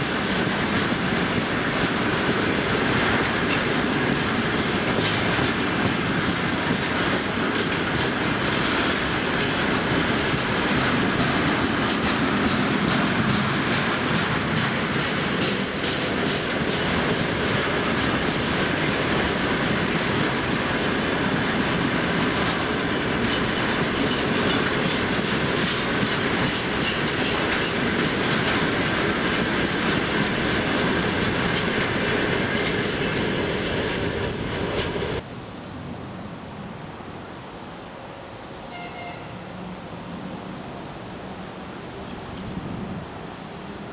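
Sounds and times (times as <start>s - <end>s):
wheels clickety-clack over rail joints: 0.0s - 35.3s, 42.0s - 43.0s
freight train rolling past: 0.0s - 43.9s.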